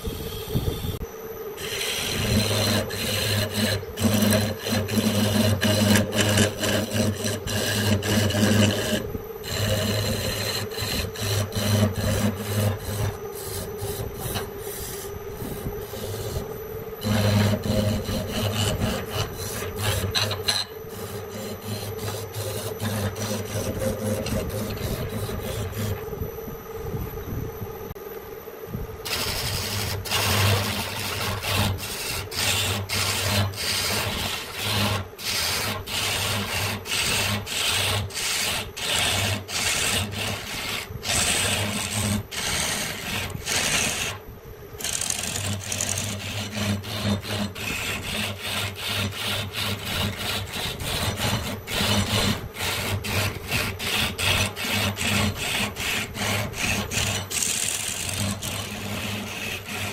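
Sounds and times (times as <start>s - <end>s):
hand tool sawing wooden branch: 1.6s - 26.0s, 29.1s - 44.2s, 44.8s - 59.9s.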